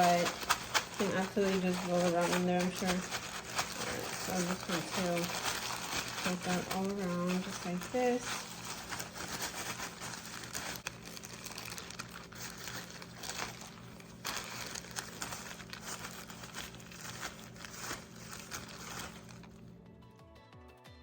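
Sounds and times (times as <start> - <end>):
crumbs crackling and crunching: 0.0 - 19.6.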